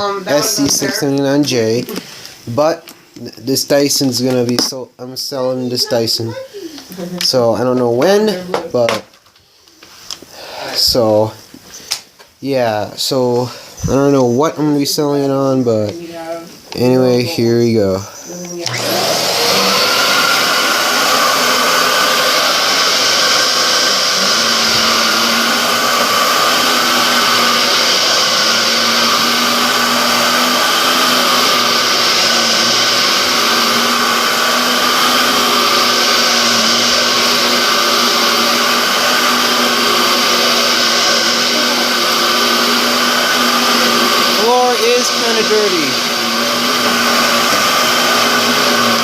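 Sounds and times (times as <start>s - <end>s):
vacuum cleaner running: 0.0s - 9.0s, 10.3s - 11.3s, 12.7s - 15.9s, 16.8s - 49.0s.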